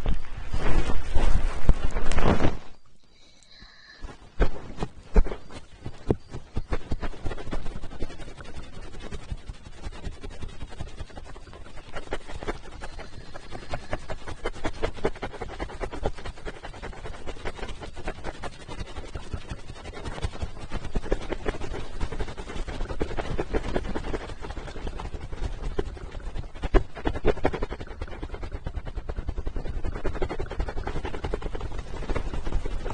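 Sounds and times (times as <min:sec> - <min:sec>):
crackling and rubbing on microphone: 0:00.0 - 0:32.9.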